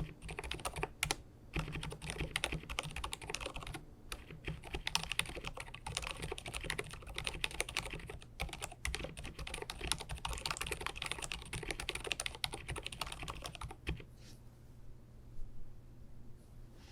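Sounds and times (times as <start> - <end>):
fast typing on keyboard: 0.0 - 14.1.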